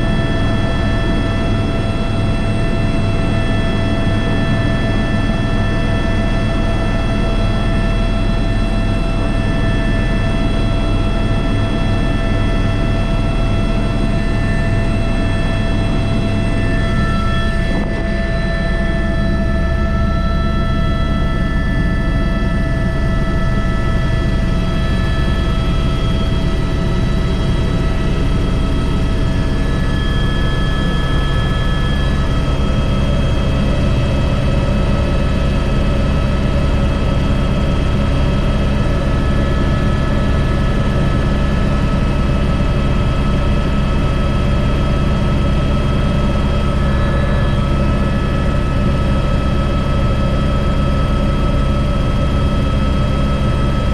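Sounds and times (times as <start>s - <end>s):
helicopter rotor and engine rumble: 0.0s - 53.9s
turbine whine: 0.0s - 53.9s.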